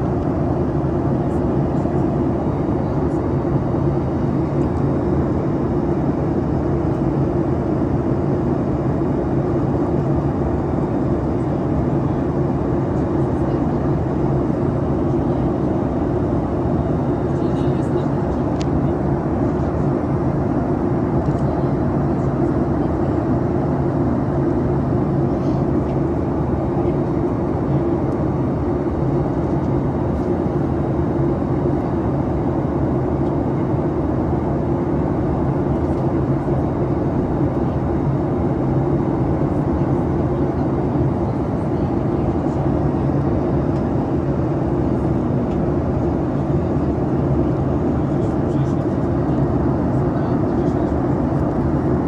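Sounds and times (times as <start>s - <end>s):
airliner engines droning: 0.0s - 52.0s.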